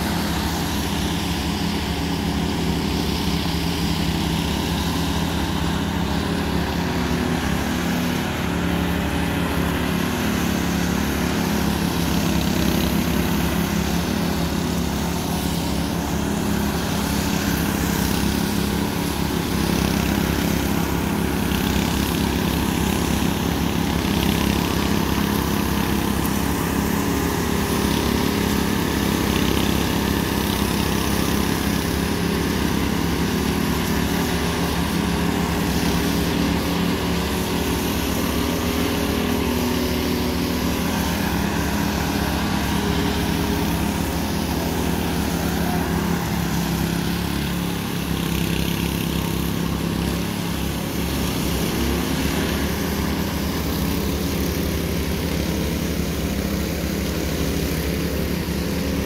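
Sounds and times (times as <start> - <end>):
power trowel engines running: 0.0 - 59.0.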